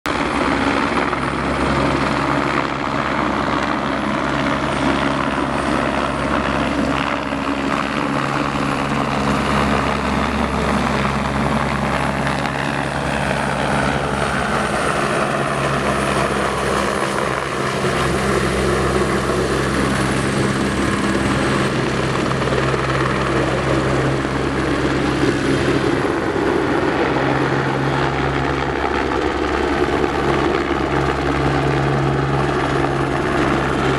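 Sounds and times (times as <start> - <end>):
helicopter rotor drone: 0.1 - 33.9.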